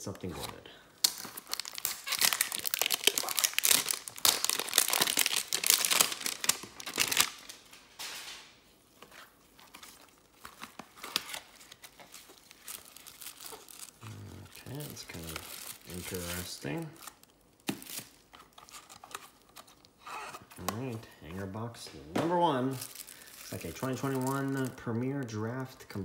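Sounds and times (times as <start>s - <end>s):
plastic wrap tearing and crinkling: 0.2s - 21.0s, 22.2s - 26.0s.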